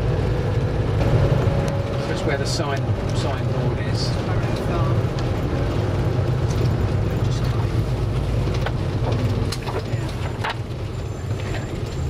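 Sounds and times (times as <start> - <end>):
minibus engine and road noise: 0.0 - 12.0.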